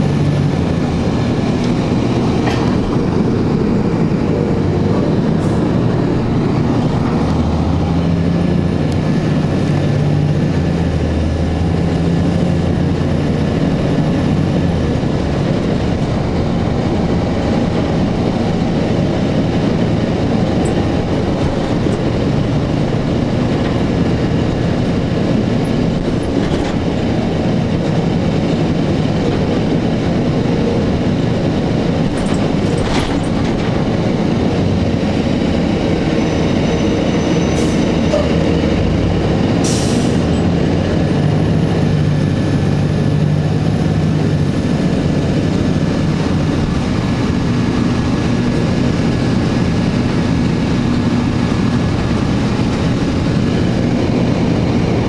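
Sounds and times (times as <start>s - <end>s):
bus diesel engine running: 0.0s - 55.0s
road and tyre noise: 0.0s - 55.0s.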